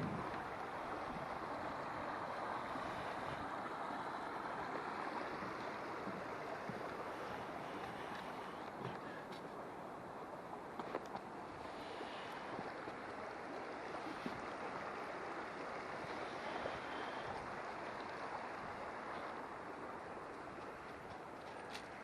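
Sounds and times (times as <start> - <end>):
stream flowing: 0.0 - 22.0.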